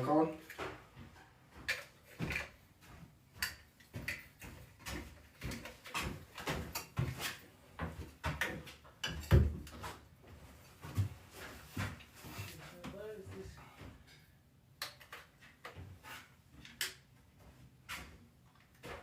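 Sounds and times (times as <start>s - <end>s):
light clicks and knocks of hand work: 0.4s - 13.1s, 13.8s - 19.0s.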